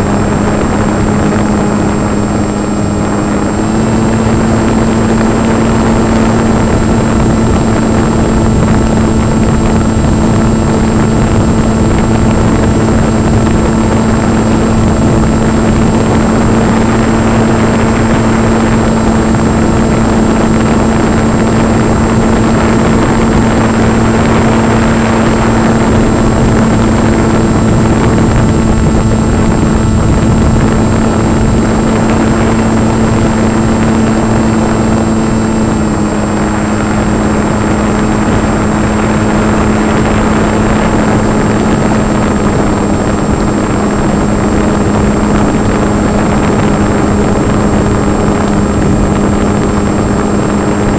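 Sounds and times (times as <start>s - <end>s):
model plane motor drone: 0.0s - 50.9s
thin high whine: 0.0s - 50.9s
wind rushing over camera: 0.0s - 50.9s.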